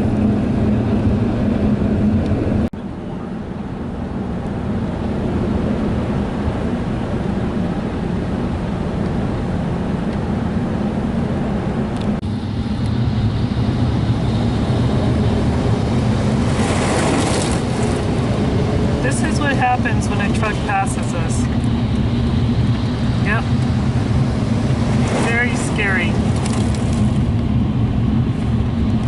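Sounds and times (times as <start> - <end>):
car tyres and engine rumble: 0.0 - 29.0
road noise hiss: 2.8 - 29.0.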